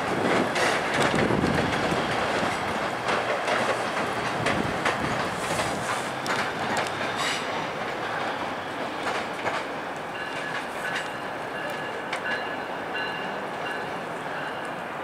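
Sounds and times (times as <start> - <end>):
train wheels clacking over rails: 0.0 - 15.0.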